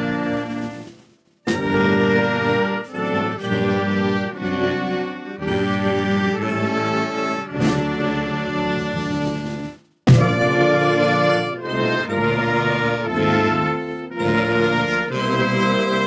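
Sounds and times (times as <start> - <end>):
brass band playing ceremonial music: 0.0 - 16.0.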